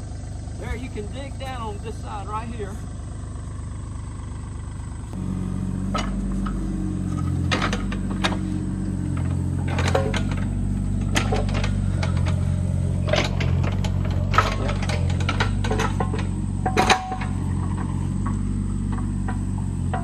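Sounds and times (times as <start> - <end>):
excavator engine under load: 0.0 - 20.0
excavator bucket clicks and clanks: 0.3 - 2.1, 4.9 - 20.0.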